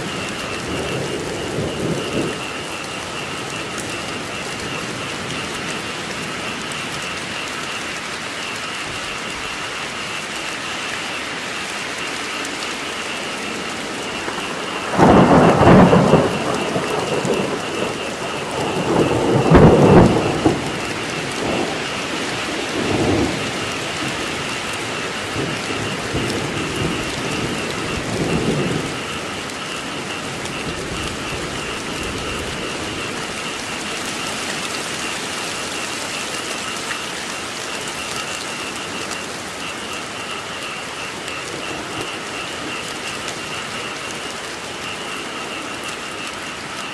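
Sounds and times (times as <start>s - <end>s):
frogs calling: 0.0s - 46.9s
heavy rain: 0.0s - 46.9s
thunder rolling: 0.0s - 46.9s.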